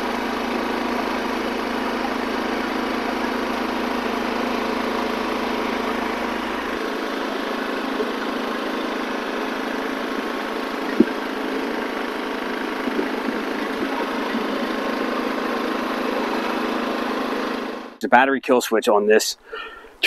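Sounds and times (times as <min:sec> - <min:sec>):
generator humming: 0:00.0 - 0:18.2, 0:19.4 - 0:20.0.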